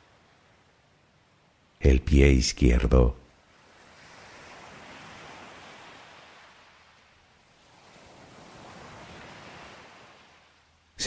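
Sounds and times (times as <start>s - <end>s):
faint sea surf: 0.0s - 11.0s.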